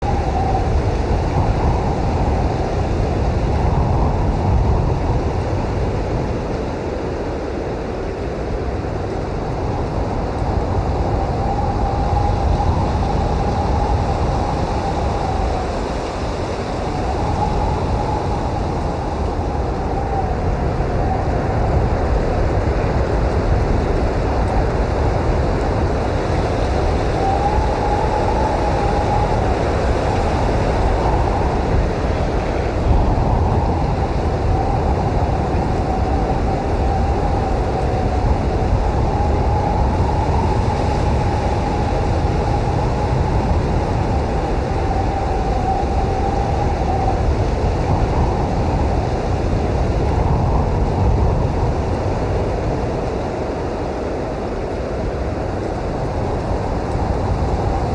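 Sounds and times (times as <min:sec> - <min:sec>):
blizzard wind roar: 0:00.0 - 0:57.9
howling wind whistle: 0:00.0 - 0:57.9.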